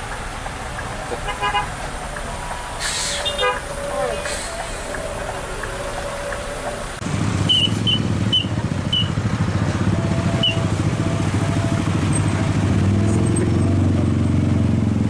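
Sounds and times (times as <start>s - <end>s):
diesel truck engine rumbling: 0.0s - 15.0s
motorcycles running: 0.0s - 15.0s.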